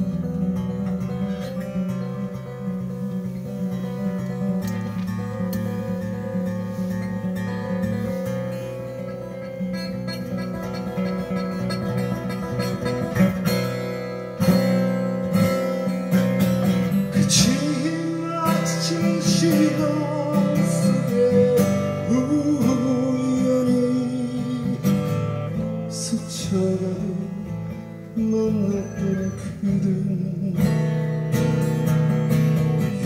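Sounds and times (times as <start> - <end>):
acoustic guitar melody: 0.0 - 33.0.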